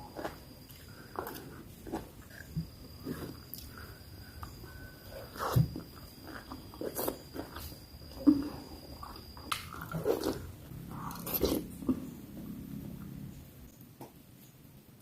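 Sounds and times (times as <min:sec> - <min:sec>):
person chewing food: 0:00.0 - 0:13.2.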